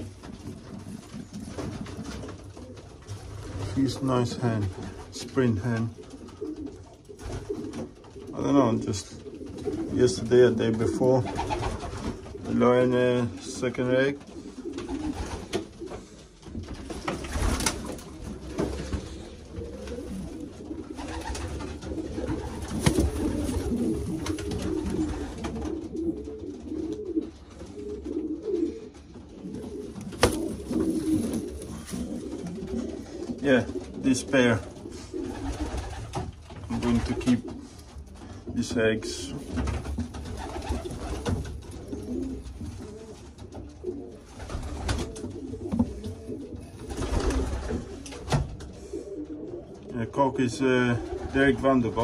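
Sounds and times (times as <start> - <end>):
birds knocking and rustling: 0.0 - 3.6, 4.7 - 8.3, 14.2 - 38.6, 39.3 - 49.8
pigeons cooing: 0.0 - 52.0.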